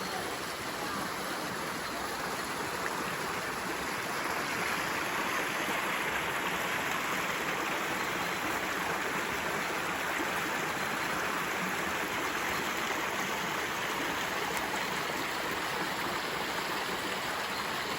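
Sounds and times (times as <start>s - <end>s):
forest stream rushing: 0.0s - 17.9s.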